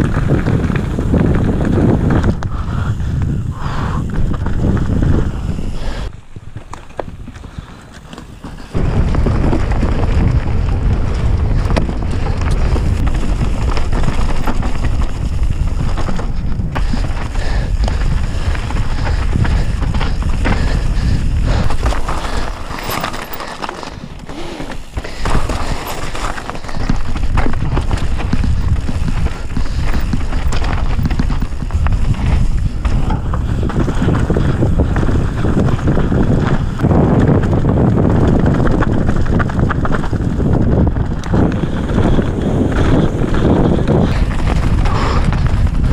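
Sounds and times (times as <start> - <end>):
bike rattling over bumps: 0.0 - 45.9
tyres on dirt: 0.0 - 45.9
wind buffeting microphone: 0.0 - 45.9.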